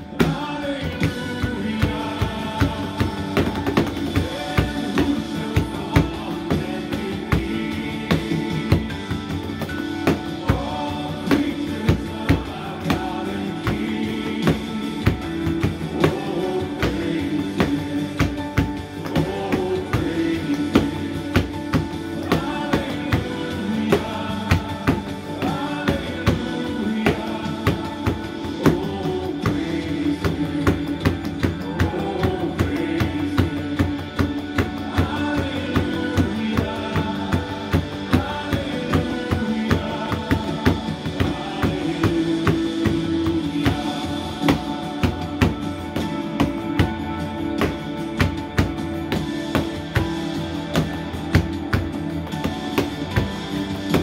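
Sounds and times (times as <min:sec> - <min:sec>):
recorded hymn with singing: 0:00.0 - 0:54.0
hands slapping cardboard box drum: 0:00.1 - 0:54.0.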